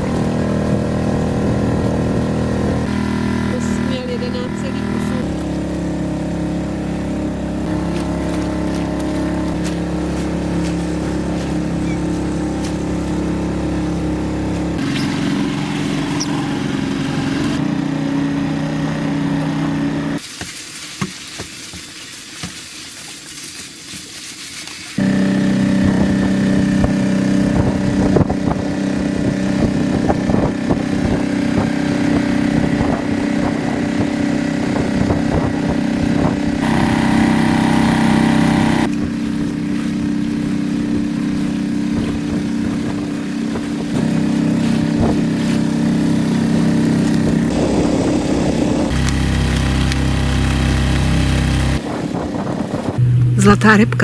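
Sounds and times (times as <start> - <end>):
small boat motor running: 0.0 - 20.2, 25.0 - 54.0.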